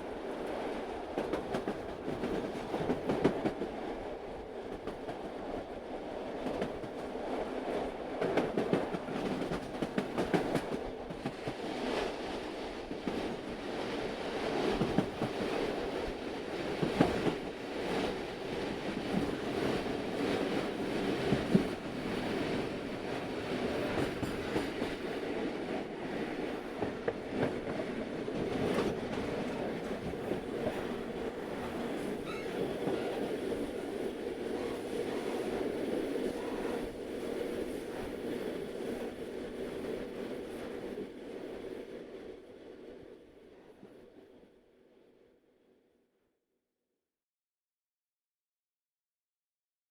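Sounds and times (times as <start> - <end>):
small train rumbling on track: 0.0 - 45.2.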